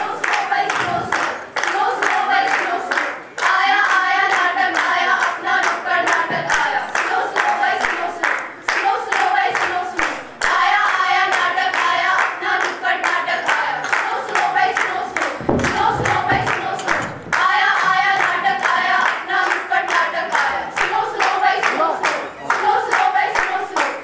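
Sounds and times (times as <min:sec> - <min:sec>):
hands clapping in rhythm: 0:00.0 - 0:24.0
women singing in unison: 0:00.0 - 0:24.0.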